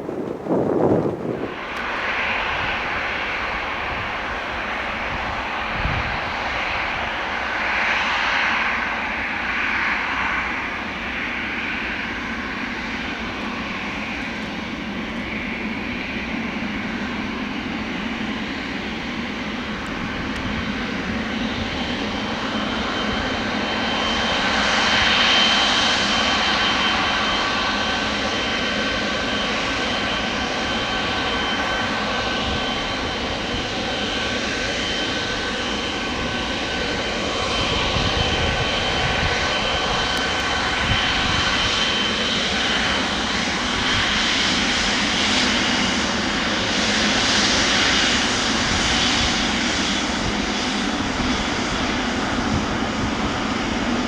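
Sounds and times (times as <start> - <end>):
jet engine whine: 0.0 - 54.0
jet engines rushing: 0.0 - 54.0.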